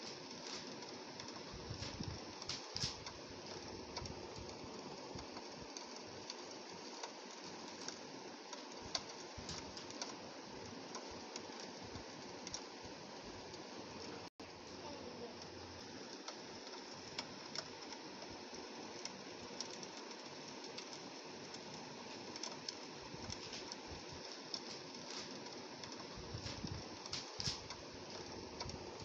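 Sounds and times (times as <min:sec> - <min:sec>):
rain hissing on window glass: 0:00.0 - 0:29.0
raindrops ticking on pane: 0:00.0 - 0:29.0.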